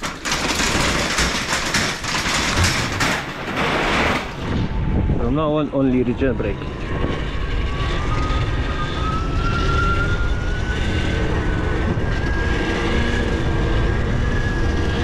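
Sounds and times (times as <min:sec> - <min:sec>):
wind and road noise: 0:00.5 - 0:15.0.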